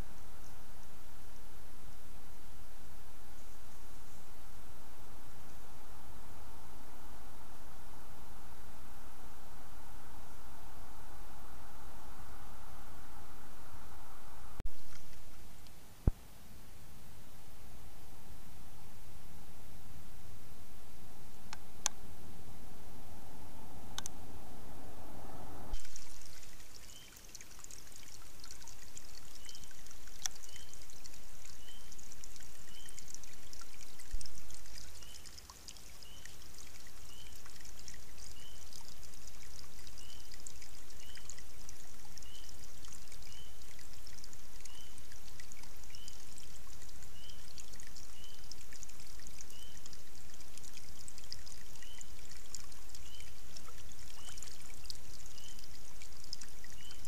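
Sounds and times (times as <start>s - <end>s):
water trickling through dam: 0.0s - 7.9s, 14.6s - 18.2s, 22.8s - 57.0s.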